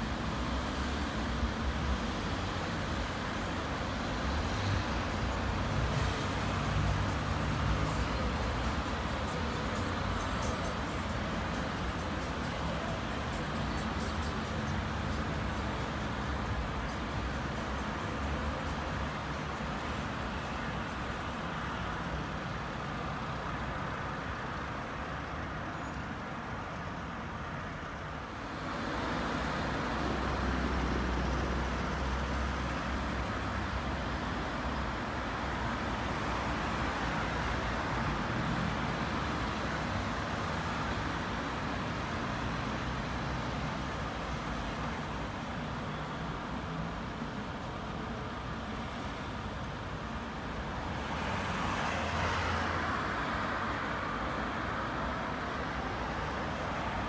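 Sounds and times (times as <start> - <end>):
passing cars: 0.0 - 57.0.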